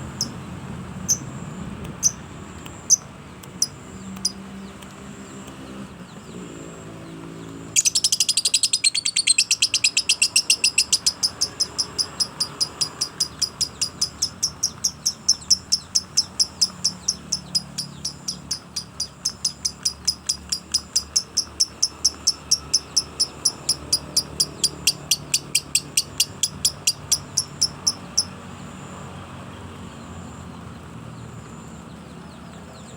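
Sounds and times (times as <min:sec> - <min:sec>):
songbird sharp high chirps: 0:00.0 - 0:00.4, 0:01.0 - 0:28.7.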